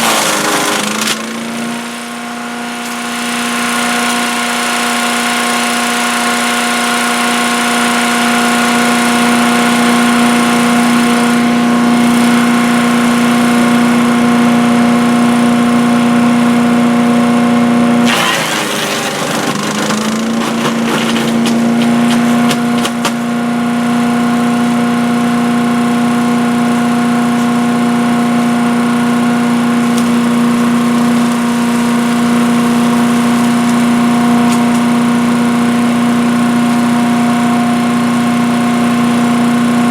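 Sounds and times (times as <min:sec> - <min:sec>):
shredder crackling and snapping: 0:00.0 - 0:17.1, 0:17.9 - 0:37.1
wood chipper engine running: 0:00.0 - 0:39.9.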